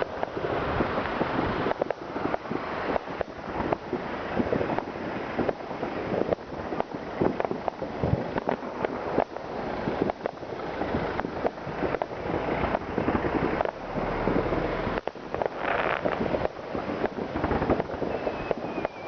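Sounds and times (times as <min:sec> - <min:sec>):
fireworks bangs and cracks: 0:00.0 - 0:14.4, 0:15.0 - 0:19.0
rumble of distant explosions: 0:00.0 - 0:19.0.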